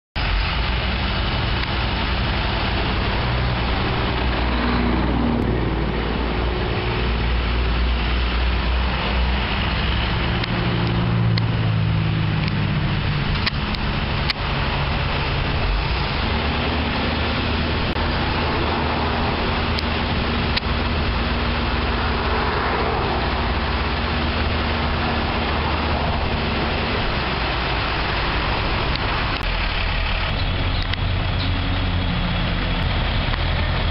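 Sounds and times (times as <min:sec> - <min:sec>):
road traffic passing: 0:00.2 - 0:33.9
truck engine running: 0:00.2 - 0:33.9.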